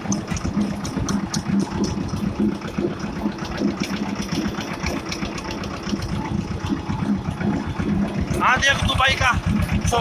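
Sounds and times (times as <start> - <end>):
tractor diesel engine chugging: 0.0 - 10.0.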